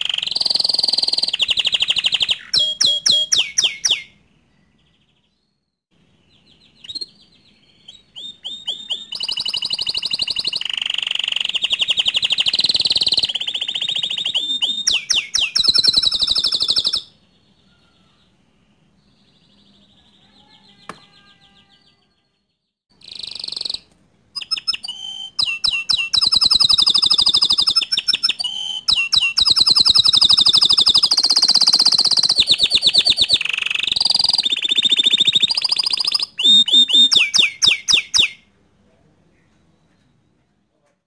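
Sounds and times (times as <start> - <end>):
canary singing trills: 0.0 - 38.5.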